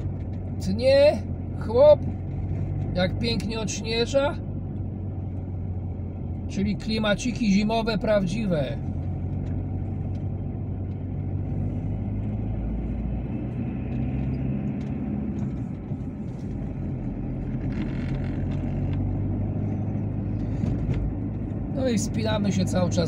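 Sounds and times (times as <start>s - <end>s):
car engine running under load: 0.0s - 23.0s
tyre and road noise: 0.0s - 23.0s.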